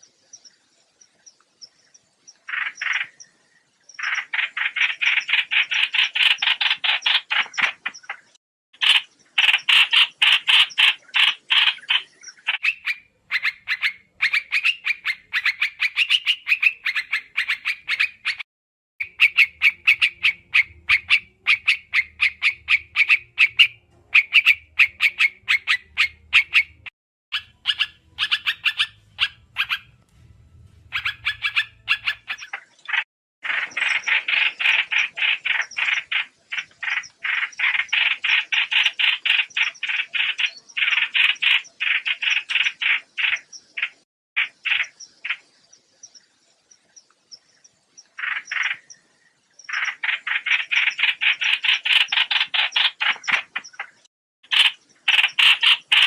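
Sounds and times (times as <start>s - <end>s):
bird chirping calls: 0.0s - 18.4s, 19.0s - 56.0s.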